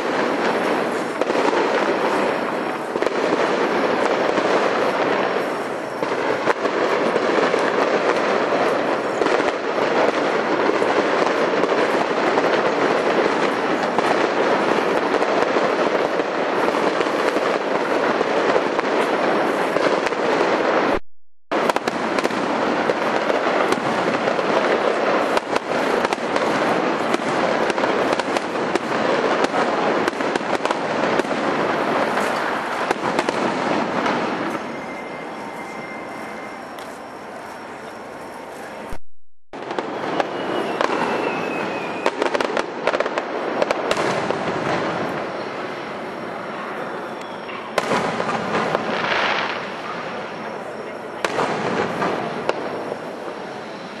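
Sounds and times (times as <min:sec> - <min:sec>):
fireworks crackling and bursting: 0:00.0 - 0:54.0.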